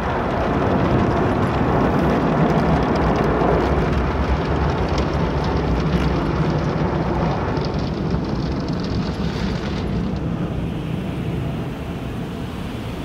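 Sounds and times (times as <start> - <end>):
car wash machinery rushing: 0.0 - 13.0.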